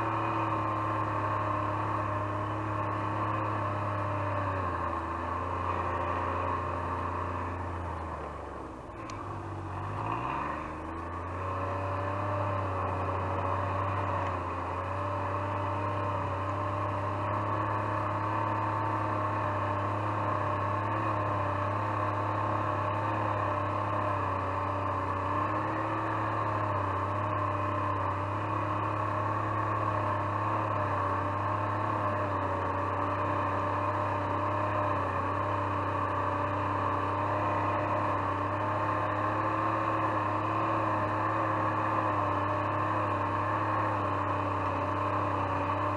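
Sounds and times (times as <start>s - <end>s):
snowmobile engine running: 0.0s - 45.9s.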